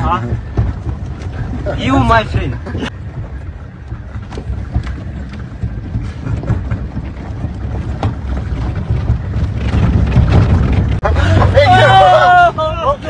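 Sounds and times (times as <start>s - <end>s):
knocks and rattles: 0.0s - 11.9s
engine and tyres rumbling: 0.0s - 13.0s.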